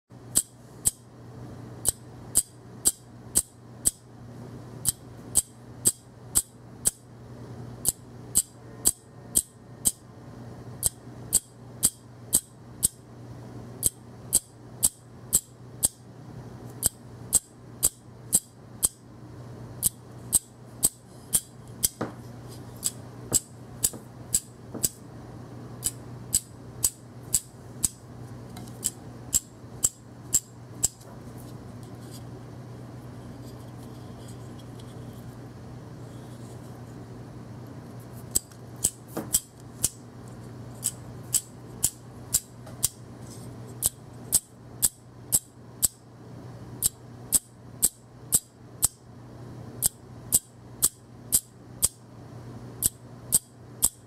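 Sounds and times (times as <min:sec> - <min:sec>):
steady low hum: 0:00.1 - 0:54.0.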